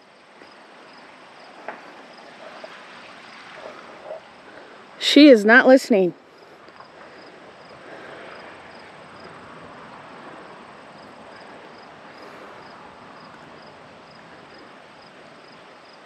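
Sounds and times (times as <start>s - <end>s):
faint insects chirping: 0.0s - 16.0s.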